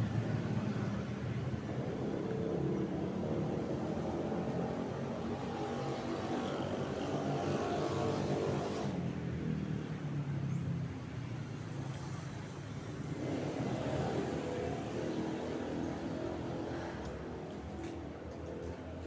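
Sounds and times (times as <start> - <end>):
road traffic engines: 0.0 - 19.0.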